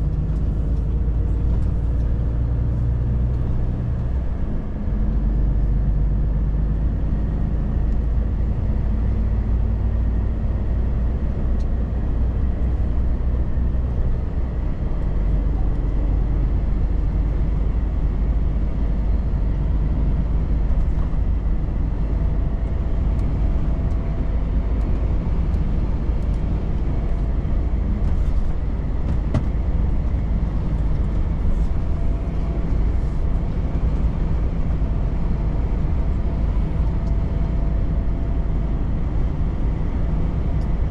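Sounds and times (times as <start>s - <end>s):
truck engine and tyres droning: 0.0s - 40.9s.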